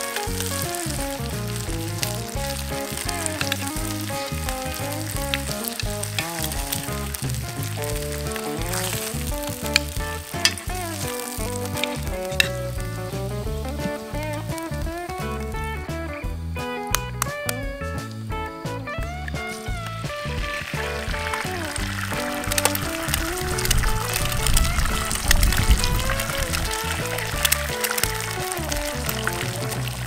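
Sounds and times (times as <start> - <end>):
sharp clicks: 0.0 - 15.8, 16.6 - 17.9, 19.2 - 30.0
bacon sizzling in a skillet: 0.0 - 16.2, 19.0 - 30.0
background music: 0.0 - 30.0.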